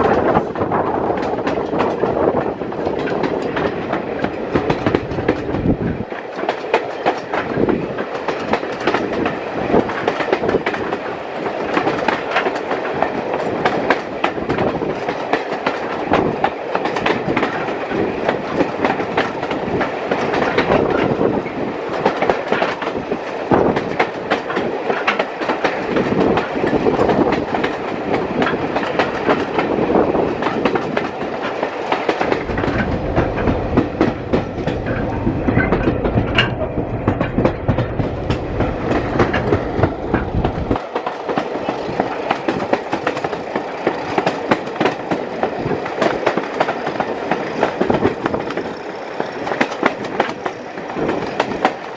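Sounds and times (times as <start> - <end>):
train running rumble: 0.0 - 51.9
train wheels clicking over rail joints: 0.0 - 51.9.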